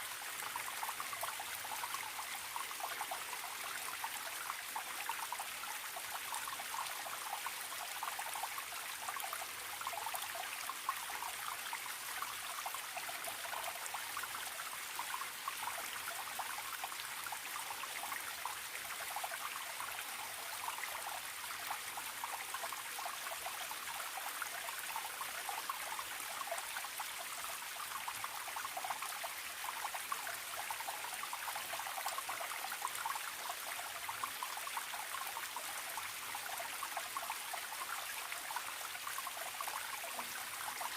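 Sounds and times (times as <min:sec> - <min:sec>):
stream trickling and babbling: 0:00.0 - 0:40.9.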